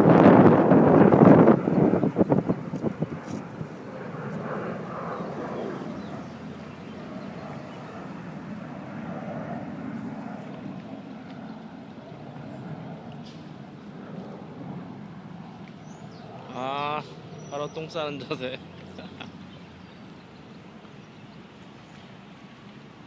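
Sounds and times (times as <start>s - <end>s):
distant engine noise: 0.0s - 23.0s.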